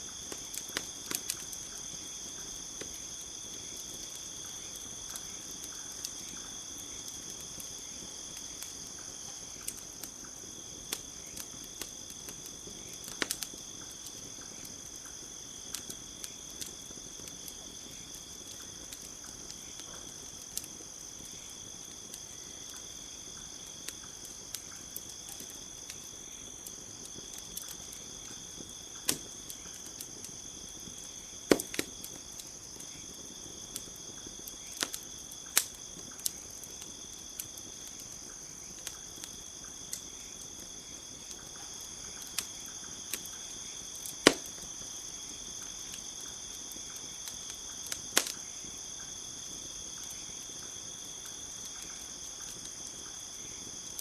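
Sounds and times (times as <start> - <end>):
campfire crackling: 0.0 - 54.0
crickets chirping: 0.0 - 54.0
burning wood popping: 0.1 - 54.0.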